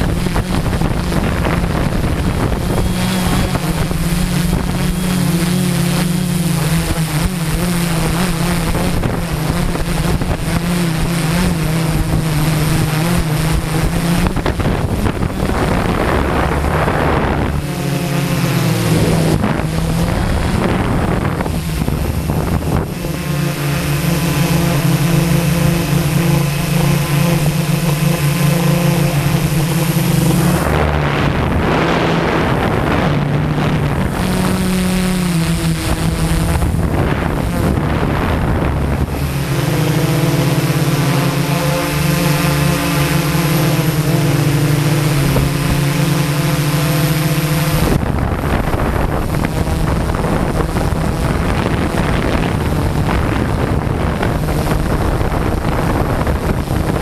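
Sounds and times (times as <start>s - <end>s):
drone propellers buzzing: 0.0s - 57.0s
wind on microphone: 0.0s - 57.0s.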